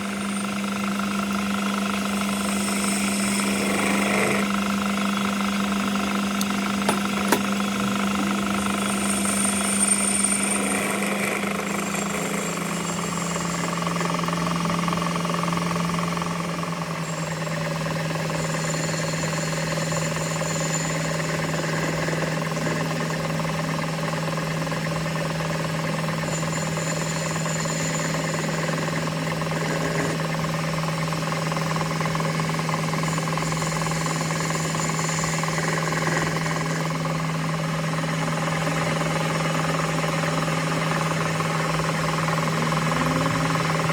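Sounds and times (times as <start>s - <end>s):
machine motor humming: 0.0s - 43.9s.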